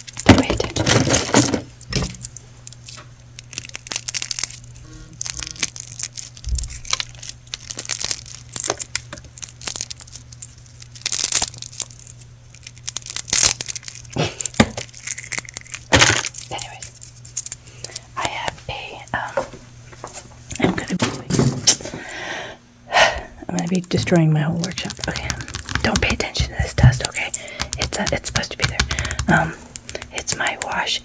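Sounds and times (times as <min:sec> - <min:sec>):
small objects being handled: 0:00.0 - 0:18.1, 0:23.6 - 0:30.8
faint steady hum: 0:00.0 - 0:31.0.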